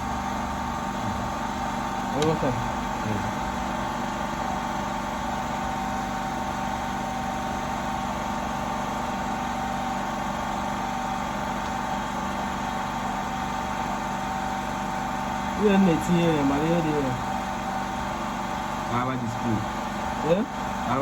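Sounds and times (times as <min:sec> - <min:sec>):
mechanical hum: 0:00.0 - 0:21.0.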